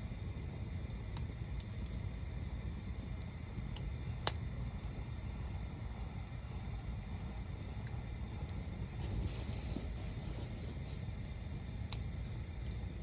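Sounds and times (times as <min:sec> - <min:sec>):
bonfire rumbling: 0:00.0 - 0:13.0
wood crackling and popping: 0:00.0 - 0:13.0.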